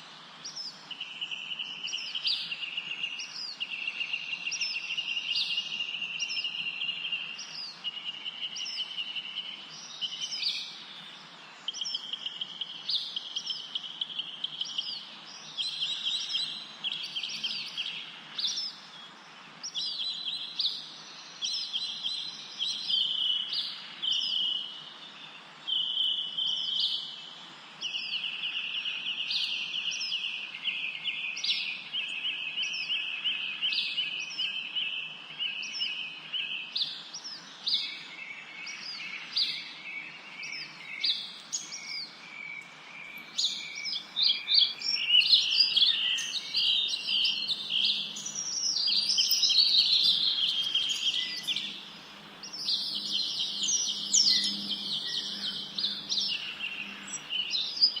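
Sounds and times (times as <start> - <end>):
background hiss: 0.0 - 58.0
songbirds singing trills: 0.0 - 58.0.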